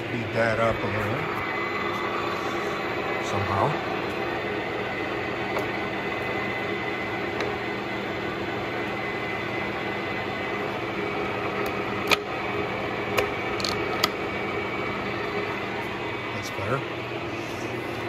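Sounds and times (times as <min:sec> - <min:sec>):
lathe running with mechanical hum: 0:00.0 - 0:18.0.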